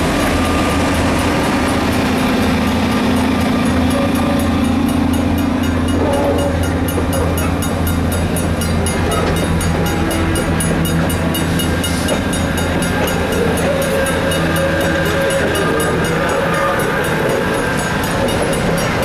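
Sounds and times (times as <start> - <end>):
passenger train rolling past: 0.0 - 19.0.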